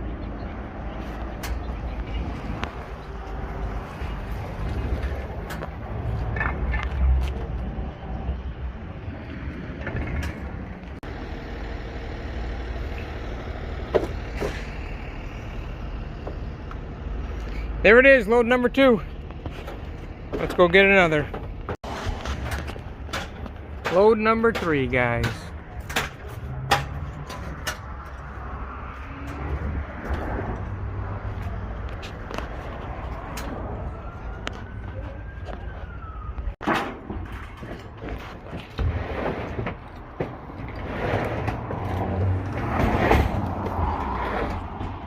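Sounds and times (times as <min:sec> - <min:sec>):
truck engine rumbling: 0:00.0 - 0:45.0.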